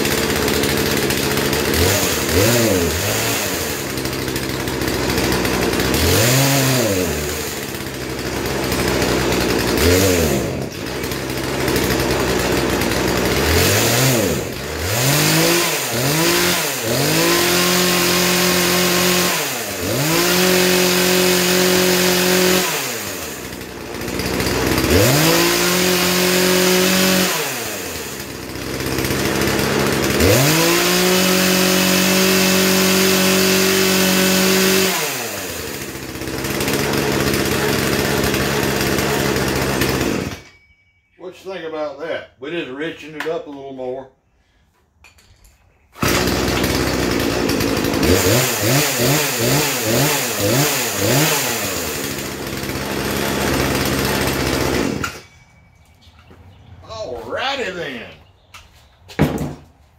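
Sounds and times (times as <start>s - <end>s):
chainsaw revving: 0.0s - 40.5s, 46.0s - 55.4s.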